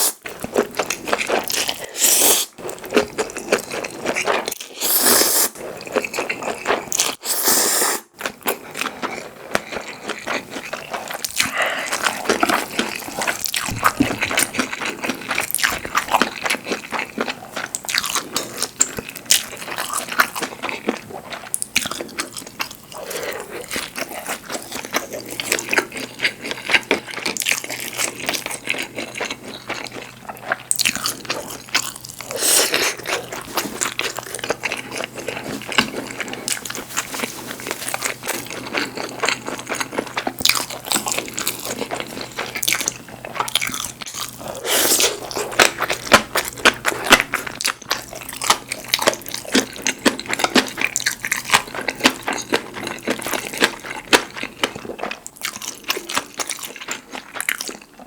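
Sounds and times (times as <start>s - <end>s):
close chewing and crunching: 0.0s - 7.4s, 8.1s - 58.0s.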